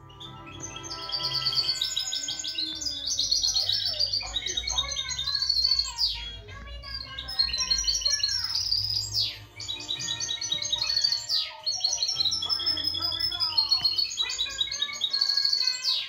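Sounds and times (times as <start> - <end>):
songbird singing trills: 0.0 - 16.0.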